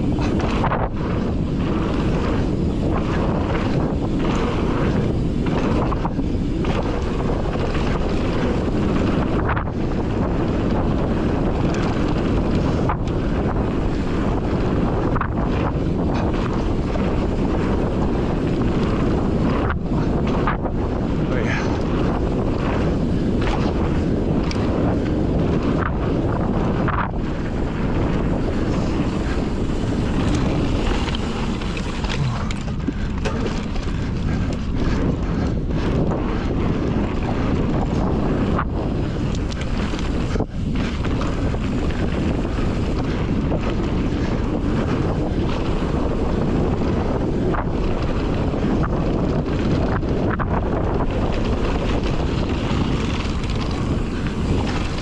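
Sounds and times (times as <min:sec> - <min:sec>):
bike clicks and knocks: 0:00.0 - 0:55.0
tyres rolling over dirt trail: 0:00.0 - 0:55.0
wind buffeting microphone: 0:00.0 - 0:55.0.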